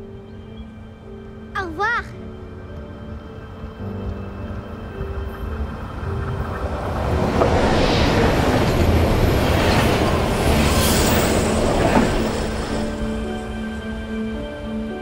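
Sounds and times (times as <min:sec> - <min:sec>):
passenger train passing at speed: 0:02.3 - 0:15.0.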